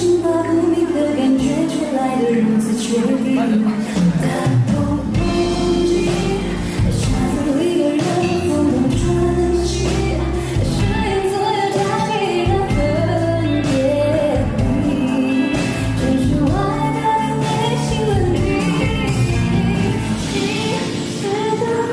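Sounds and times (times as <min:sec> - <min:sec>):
live pop band playing: 0:00.0 - 0:21.9
woman singing: 0:00.0 - 0:21.9.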